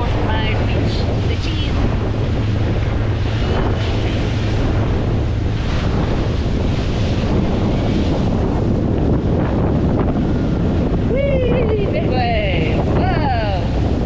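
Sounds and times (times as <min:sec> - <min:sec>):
boat engine low drone: 0:00.0 - 0:14.0
water rushing: 0:00.0 - 0:14.0
wind buffeting microphone: 0:00.0 - 0:14.0.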